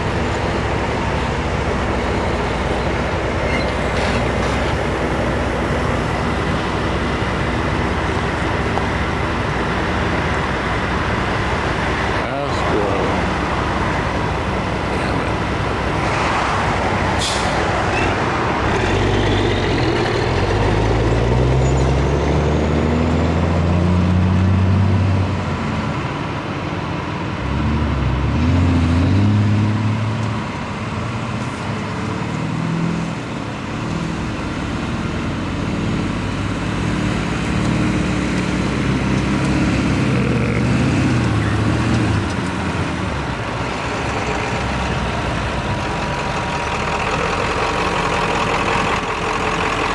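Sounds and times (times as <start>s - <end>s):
truck engine: 0.0s - 49.9s.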